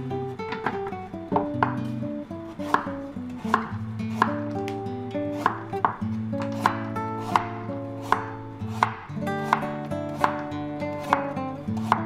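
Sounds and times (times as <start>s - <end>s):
soft background music: 0.0s - 12.0s
knife chopping on wooden board: 0.5s - 1.9s, 2.6s - 4.5s, 5.3s - 12.0s.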